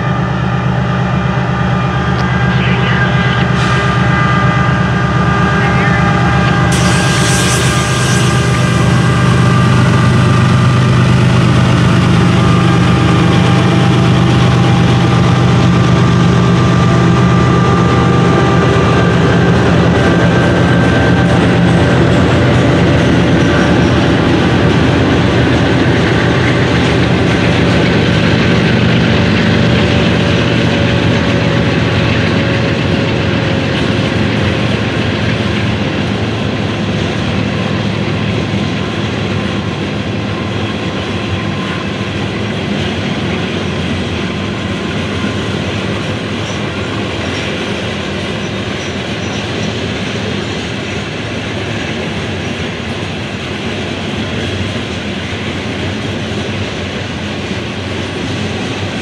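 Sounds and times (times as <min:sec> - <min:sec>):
diesel locomotive engines: 0:00.0 - 0:59.0
train wheels rolling on rails: 0:03.4 - 0:59.0.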